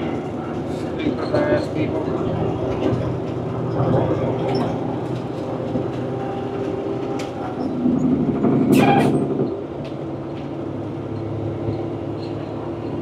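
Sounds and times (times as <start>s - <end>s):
road noise: 0.0s - 13.0s
truck diesel engine drone: 0.0s - 13.0s.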